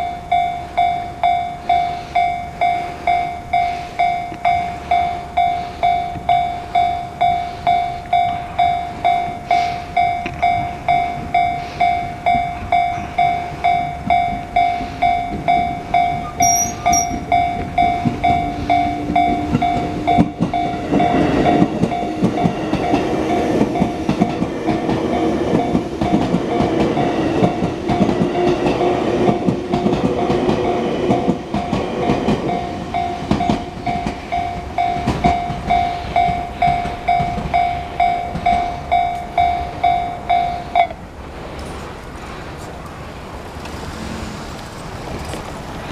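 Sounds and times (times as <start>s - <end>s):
level-crossing alarm ringing: 0.0s - 41.0s
train rumbling and clattering: 0.0s - 45.9s.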